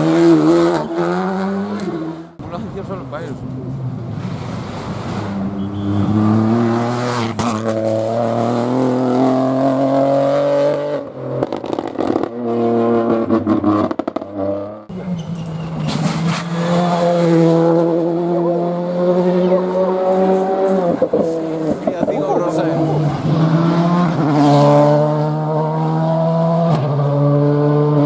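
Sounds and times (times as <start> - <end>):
rally car engine accelerating: 4.4 - 28.0.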